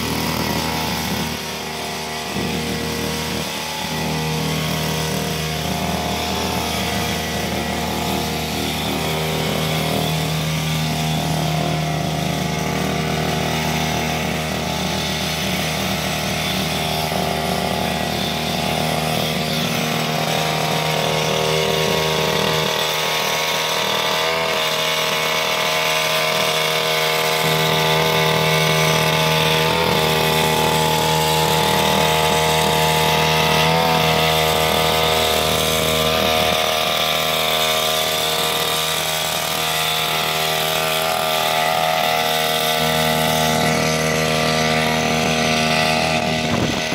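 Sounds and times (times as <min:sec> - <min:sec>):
brush cutter engine running: 0:00.0 - 0:46.9
trimmer line cutting grass: 0:00.0 - 0:46.9.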